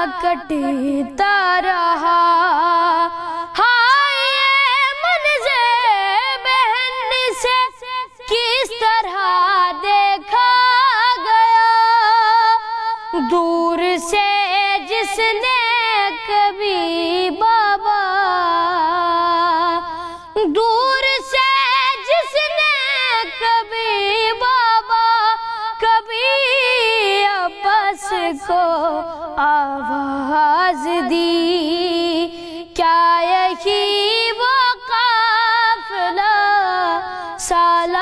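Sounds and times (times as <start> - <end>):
boy singing a lament: 0.0 - 38.0.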